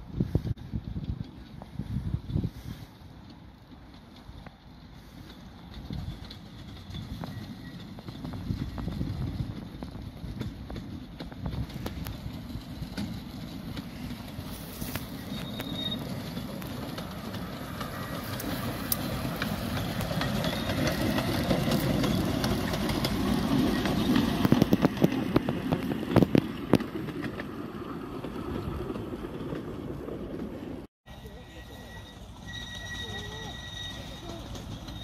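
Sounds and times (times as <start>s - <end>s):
steam locomotive running past: 0.0s - 35.0s.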